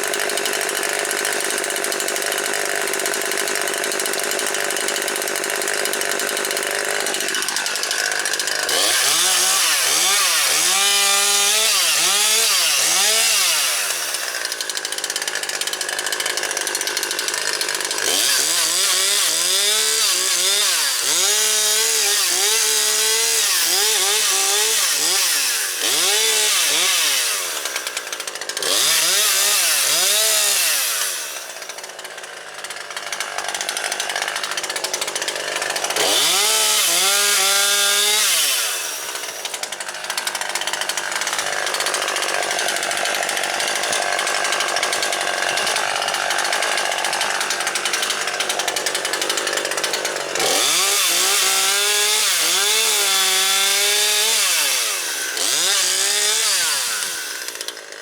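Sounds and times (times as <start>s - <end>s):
chainsaw revving and cutting wood: 0.0s - 58.0s.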